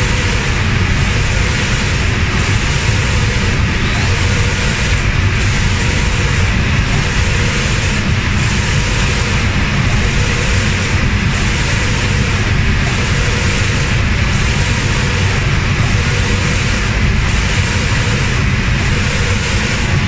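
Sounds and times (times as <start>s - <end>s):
machine low rumble: 0.0s - 20.0s
spray guns hissing: 0.0s - 20.0s.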